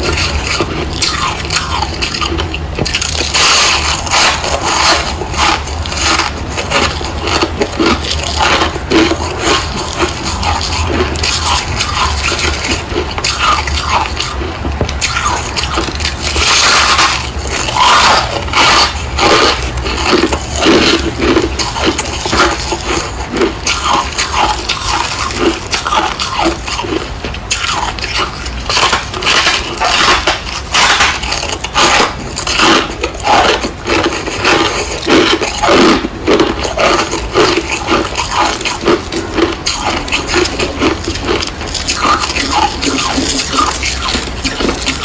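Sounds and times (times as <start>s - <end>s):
frost being chewed: 0.0s - 45.0s.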